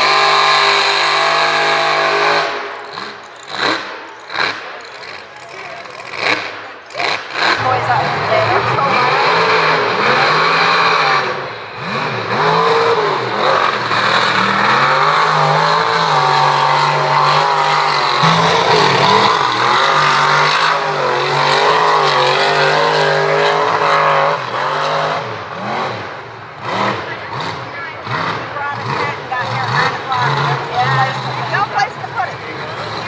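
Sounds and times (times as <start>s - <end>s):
truck engine revving hard: 0.0s - 33.0s.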